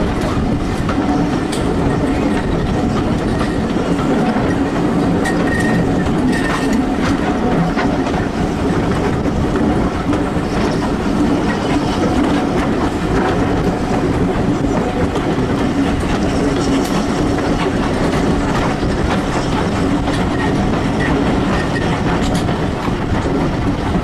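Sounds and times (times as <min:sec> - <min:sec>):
train running rumble: 0:00.0 - 0:24.0
wheels clicking over rail joints: 0:00.0 - 0:24.0.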